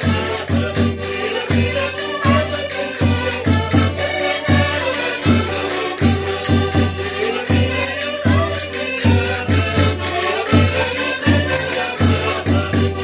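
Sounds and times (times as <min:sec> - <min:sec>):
button accordions playing folk tune: 0:00.0 - 0:13.0
people singing along: 0:00.0 - 0:13.0.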